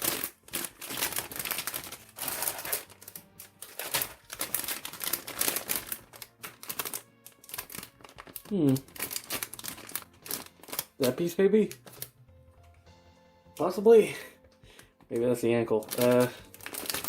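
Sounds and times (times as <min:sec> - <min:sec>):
plastic bags crinkling: 0:00.0 - 0:12.1, 0:15.2 - 0:17.0.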